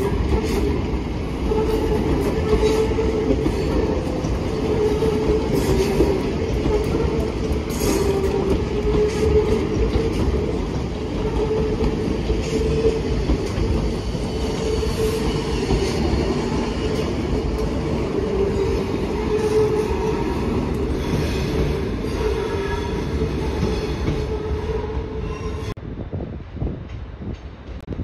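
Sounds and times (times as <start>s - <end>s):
electric train approaching: 0.0s - 25.8s
train rumbling and humming: 0.0s - 28.0s.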